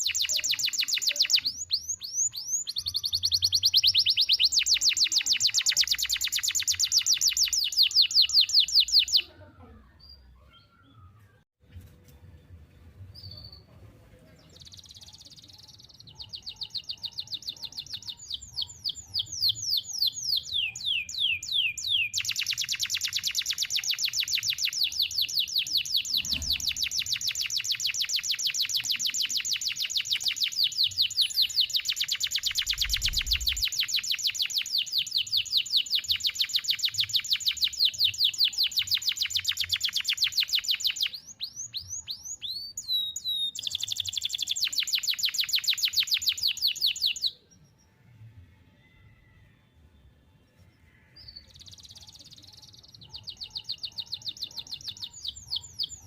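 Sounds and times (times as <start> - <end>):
canary singing trill: 0.0 - 11.4, 14.4 - 47.9, 50.9 - 56.0.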